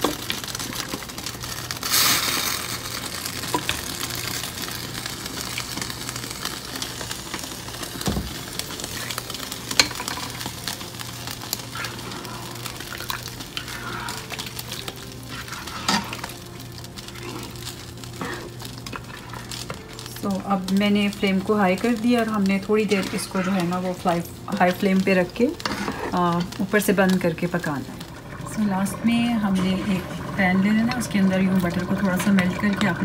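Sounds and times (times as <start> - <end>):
curry sizzling in a pot: 0.0 - 33.0.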